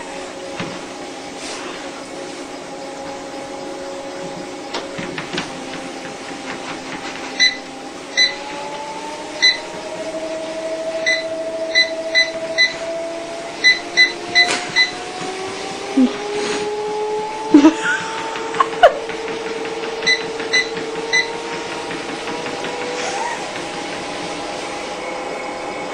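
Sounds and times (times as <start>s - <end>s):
treadmill motor whining: 0.0s - 25.9s.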